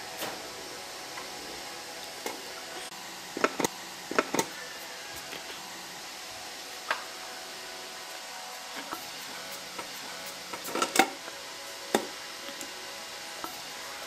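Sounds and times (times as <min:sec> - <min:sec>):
steady faint hum: 0:00.0 - 0:14.0.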